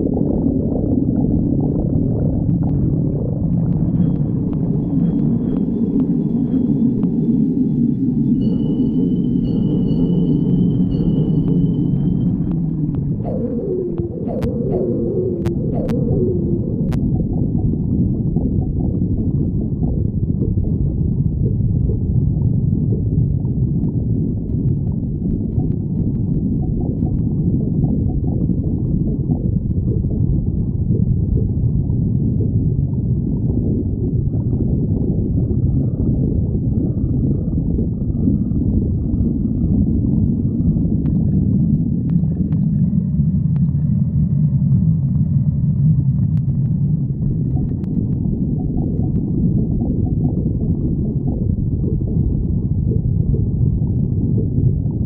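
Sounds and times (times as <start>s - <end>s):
stomach growling: 0.0s - 7.6s, 10.9s - 55.0s.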